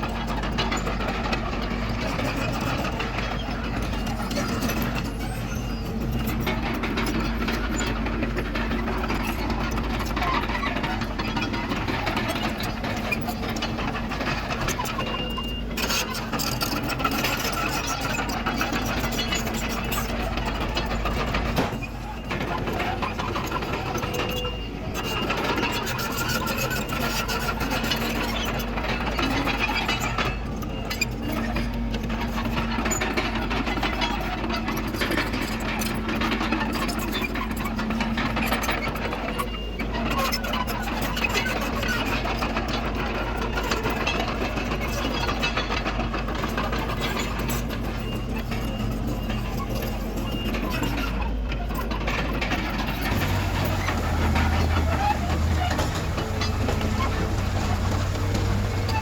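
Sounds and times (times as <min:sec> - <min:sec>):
bulldozer diesel engine running: 0:00.0 - 0:59.0
metallic clatter of machine: 0:00.0 - 0:59.0.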